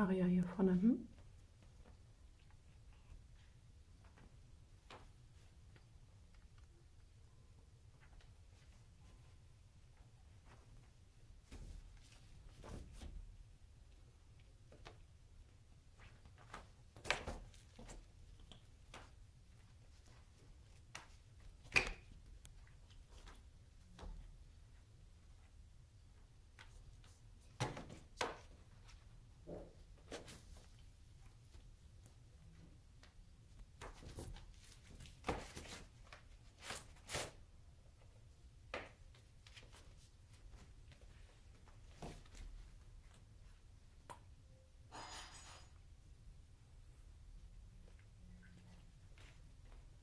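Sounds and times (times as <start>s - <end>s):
kittens' paws tapping and rustling: 1.1s - 37.3s, 38.0s - 44.3s.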